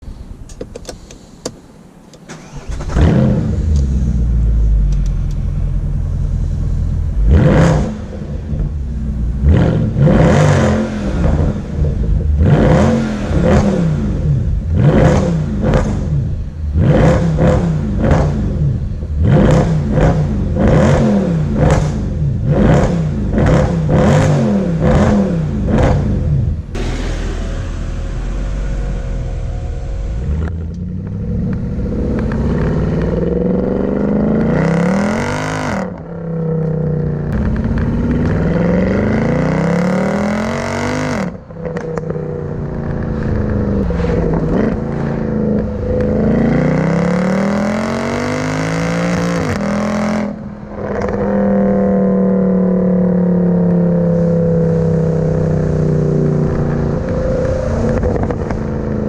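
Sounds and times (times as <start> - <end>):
car engine revving: 2.3 - 59.0.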